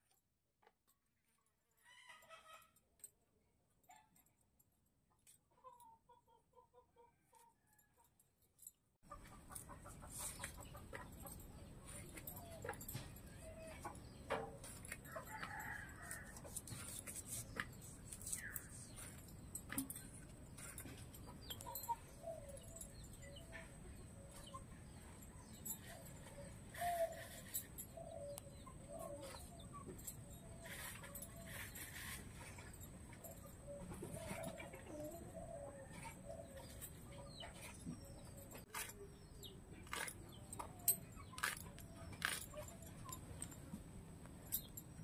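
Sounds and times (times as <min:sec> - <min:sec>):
outdoor background noise: 0:00.0 - 0:45.0
chickens clucking: 0:05.5 - 0:07.5, 0:09.1 - 0:43.4.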